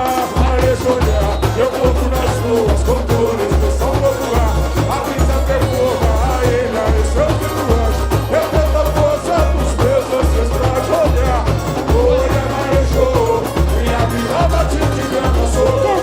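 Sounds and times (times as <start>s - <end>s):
percussion: 0.0s - 16.0s
sung melody: 0.0s - 16.0s
surdo bass drums beating: 0.0s - 16.0s.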